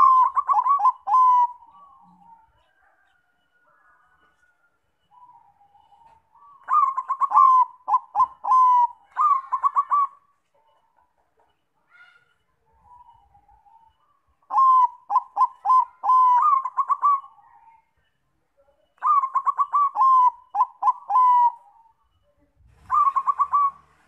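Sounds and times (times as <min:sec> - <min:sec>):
dove cooing: 0:00.0 - 0:04.4, 0:05.1 - 0:11.0, 0:12.7 - 0:17.8, 0:19.0 - 0:22.1, 0:22.7 - 0:24.0.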